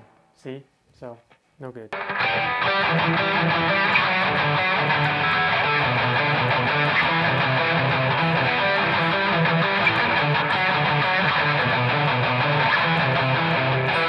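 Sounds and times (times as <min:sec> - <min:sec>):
distorted electric guitar riff: 0:02.0 - 0:14.0.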